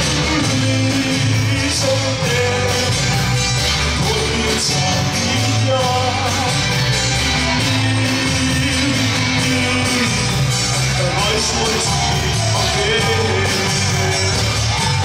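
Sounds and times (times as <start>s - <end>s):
drum kit: 0.0s - 15.0s
guitars: 0.0s - 15.0s
man singing: 0.0s - 15.0s.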